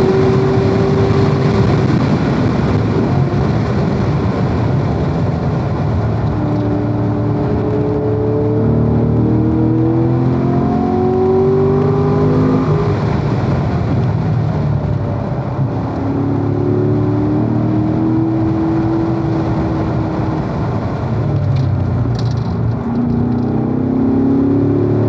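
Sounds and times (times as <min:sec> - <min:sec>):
car engine accelerating: 0:00.0 - 0:25.0
wind and road noise: 0:00.0 - 0:25.0.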